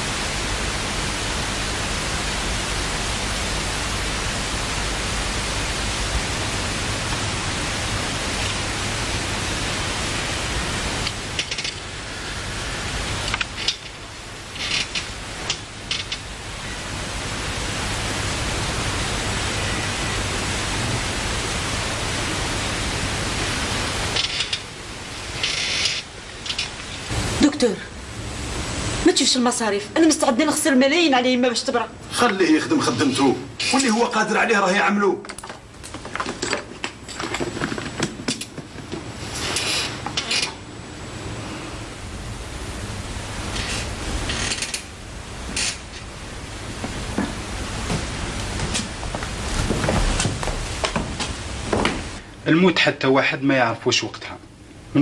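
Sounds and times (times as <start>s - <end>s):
steady hiss: 0.0s - 55.0s
steady low hum: 0.0s - 55.0s.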